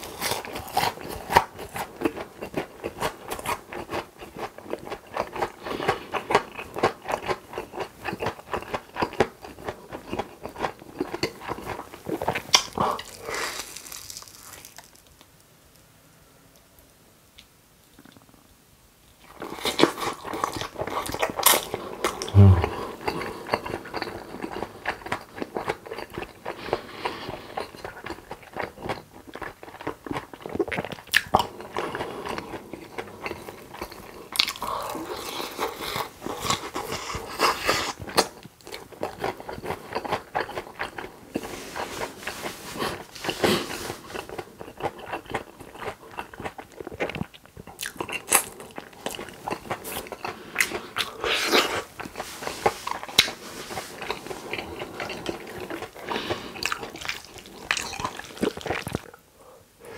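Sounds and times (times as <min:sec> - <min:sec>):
crunchy food chewing: 0:00.0 - 0:15.3, 0:19.2 - 0:59.2.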